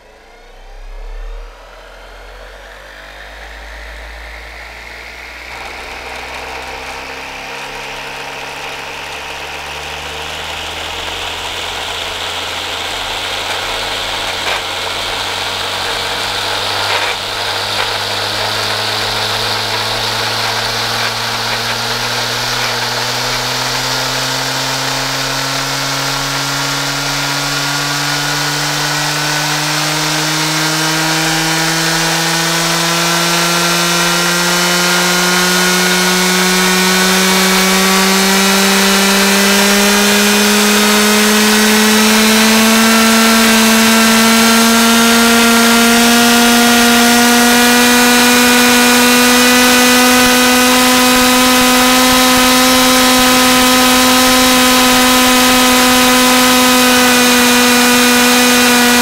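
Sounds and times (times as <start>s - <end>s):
string trimmer motor whining: 0.0s - 59.0s.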